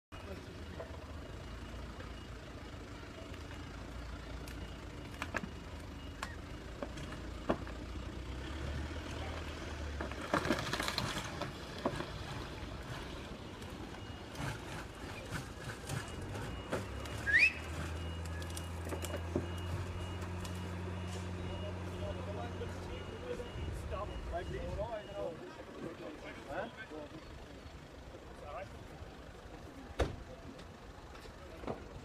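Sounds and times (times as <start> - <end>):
vehicle engine running: 0.1 - 32.0.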